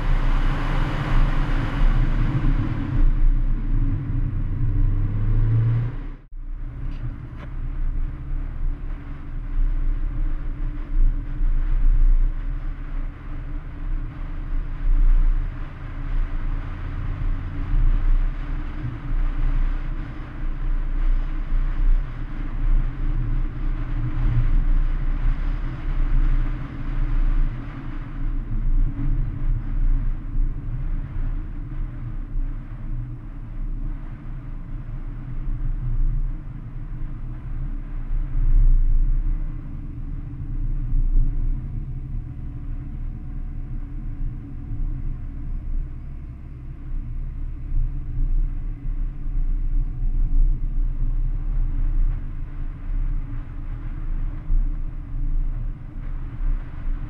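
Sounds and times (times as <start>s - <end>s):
car engine: 0.0s - 57.0s
road rumble: 0.0s - 57.0s
wind noise: 0.0s - 57.0s.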